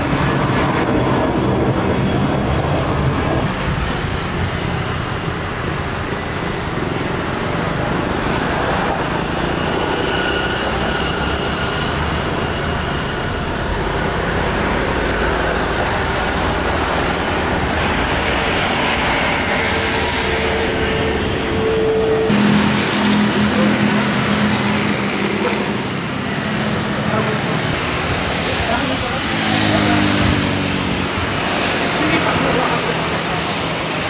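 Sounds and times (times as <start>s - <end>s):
jet airliner engines running: 0.0s - 34.0s.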